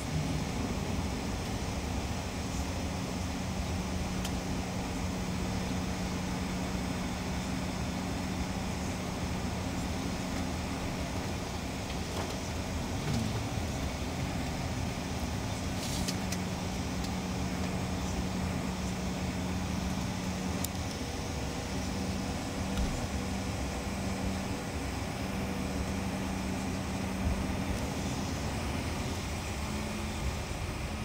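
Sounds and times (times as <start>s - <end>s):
jet engines humming in cabin: 0.0s - 31.0s.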